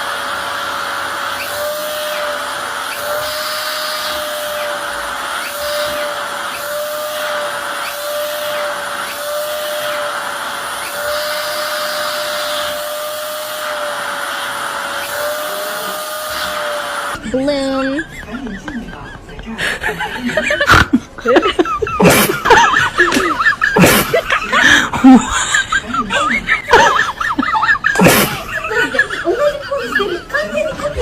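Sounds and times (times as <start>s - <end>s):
electric motor humming: 0.0s - 18.8s, 21.8s - 31.0s.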